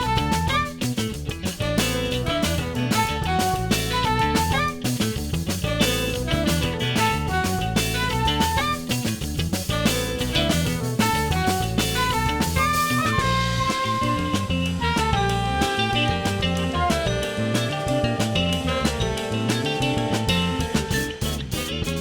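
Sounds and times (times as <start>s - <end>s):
bass: 0.0s - 22.0s
drum kit beat: 0.0s - 22.0s
electric guitar melody: 0.0s - 22.0s.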